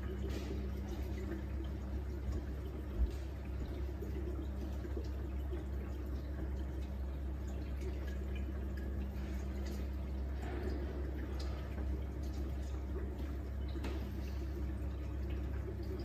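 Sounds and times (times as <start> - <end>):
aquarium pump humming: 0.0 - 16.0
water trickling and dripping: 0.0 - 16.0.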